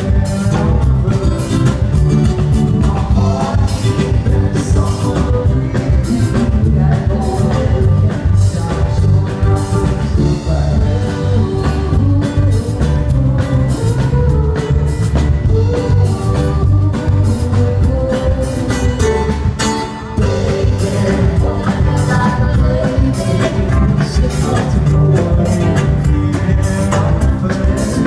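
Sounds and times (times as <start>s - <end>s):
drum kit beat: 0.0s - 28.0s
live rock band playing: 0.0s - 28.0s.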